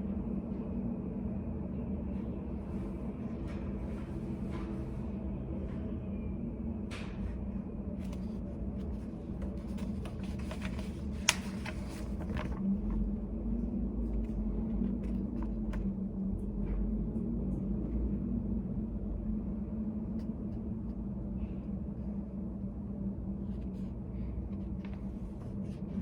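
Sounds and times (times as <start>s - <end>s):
low hum and rumble: 0.0s - 26.0s.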